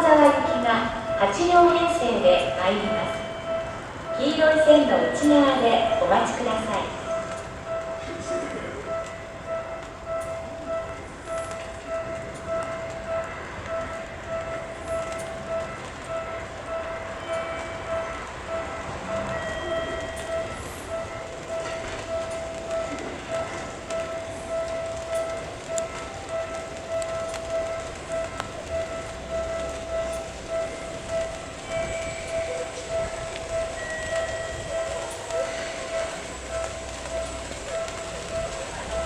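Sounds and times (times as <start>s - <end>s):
electric train running on track: 0.0s - 39.0s
warning bell ringing: 0.0s - 39.0s.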